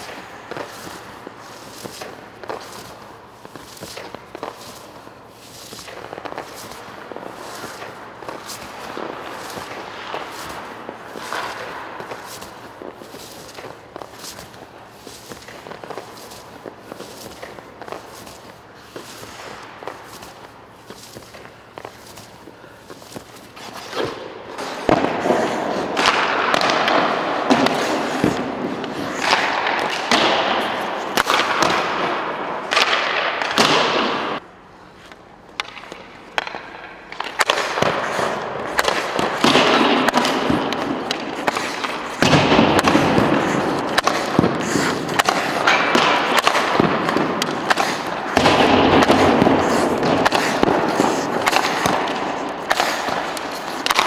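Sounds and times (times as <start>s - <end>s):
pucks and sticks clacking: 0.0s - 54.0s
skate blades scraping ice: 0.0s - 54.0s.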